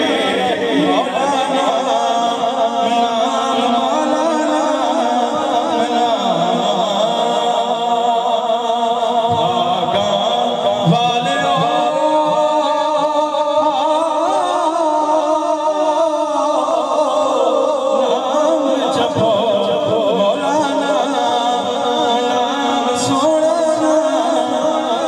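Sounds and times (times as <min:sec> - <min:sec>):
man singing through loudspeaker: 0:00.0 - 0:25.0.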